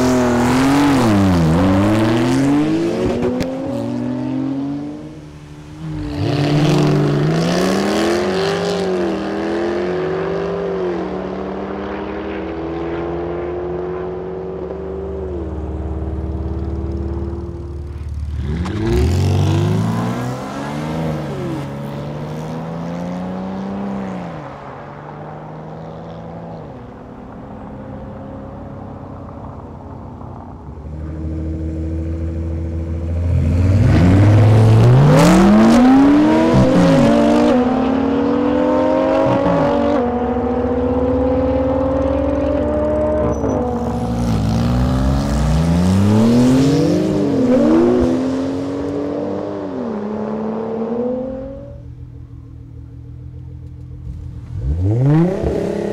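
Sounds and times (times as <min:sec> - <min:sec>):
car engines accelerating hard: 0:00.0 - 0:55.9.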